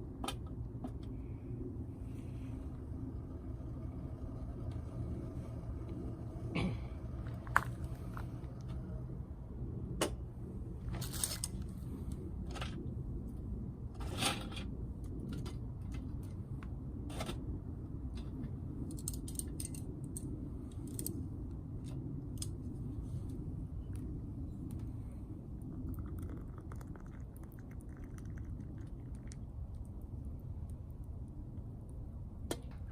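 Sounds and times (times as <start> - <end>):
steady low rumble: 0.0 - 32.9.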